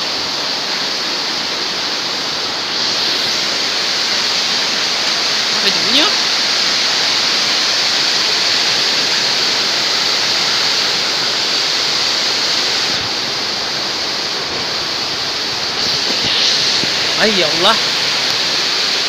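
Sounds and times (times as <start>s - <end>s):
strong gusting wind: 0.0s - 19.0s.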